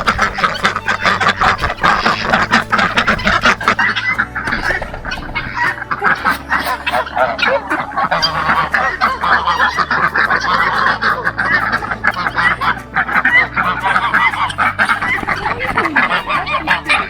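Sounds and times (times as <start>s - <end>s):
geese honking: 0.0s - 17.0s
poultry calling: 0.0s - 17.0s.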